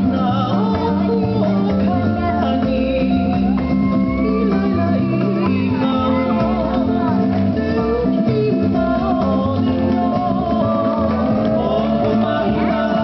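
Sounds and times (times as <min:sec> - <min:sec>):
guitar: 0:00.0 - 0:13.0
person singing: 0:00.0 - 0:13.0
repeating bass line: 0:00.0 - 0:13.0.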